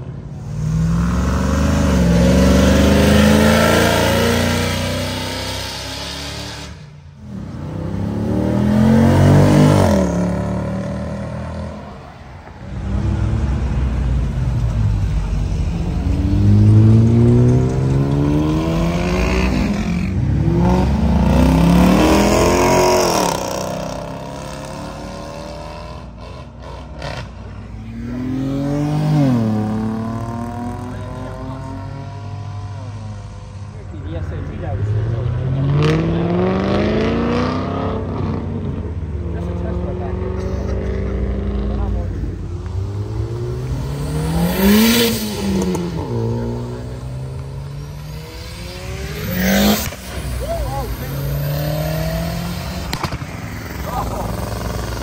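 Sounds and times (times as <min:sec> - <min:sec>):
cars accelerating away: 0:00.4 - 0:55.0.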